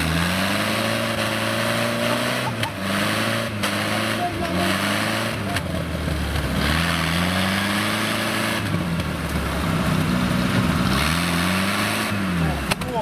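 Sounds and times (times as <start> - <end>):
van engine revving: 0.0 - 13.0.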